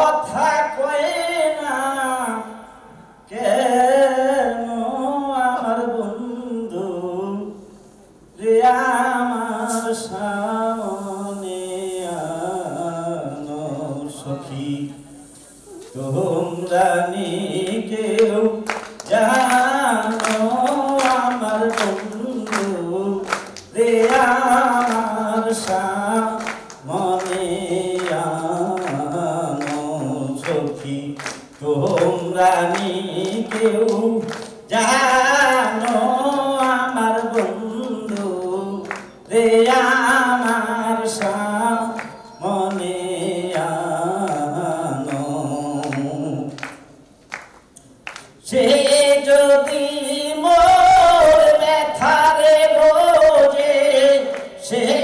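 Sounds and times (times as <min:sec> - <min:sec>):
man singing into microphone: 0:00.0 - 0:07.6, 0:08.4 - 0:46.8, 0:48.4 - 0:55.0.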